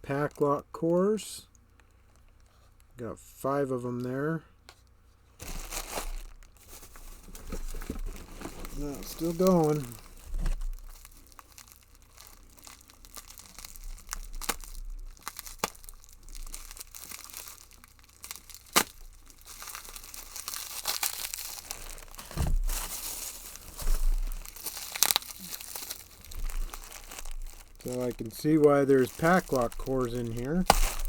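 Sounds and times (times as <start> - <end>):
packing material crinkling: 5.3 - 31.0.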